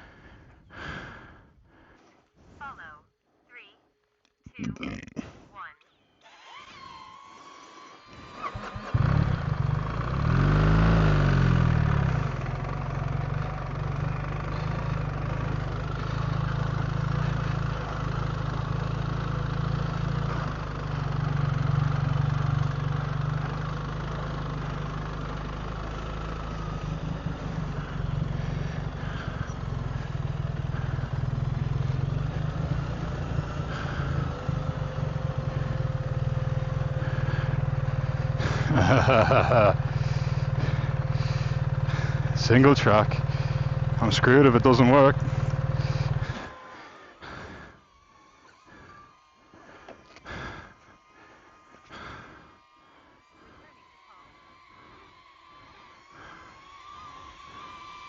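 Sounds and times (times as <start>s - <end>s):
motorcycle engine running: 7.8s - 58.0s.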